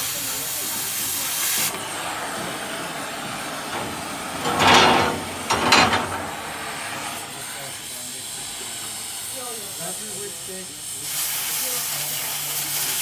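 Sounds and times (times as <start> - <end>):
cutting torch flame hissing: 0.0 - 13.0.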